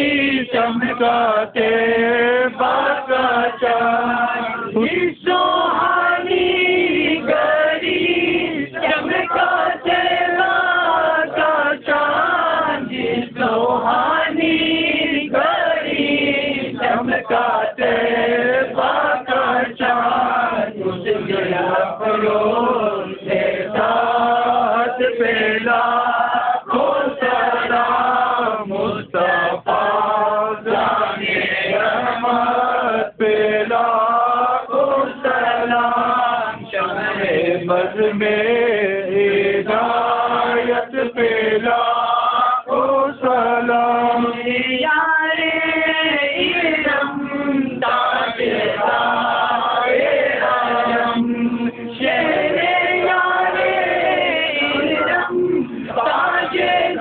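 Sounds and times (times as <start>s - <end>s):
men chanting together: 0.0s - 57.0s.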